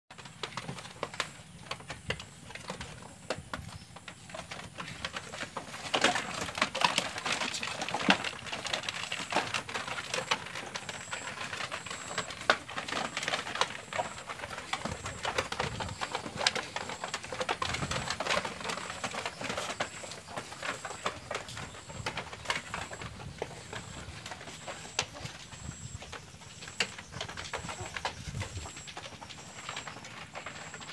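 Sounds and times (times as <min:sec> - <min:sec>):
hooves clattering on wooden floor: 0:00.1 - 0:30.9.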